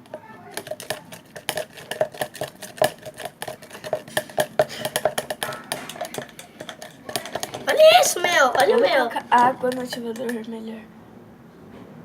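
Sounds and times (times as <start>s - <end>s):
slime mixing clicks and taps: 0.0s - 10.5s.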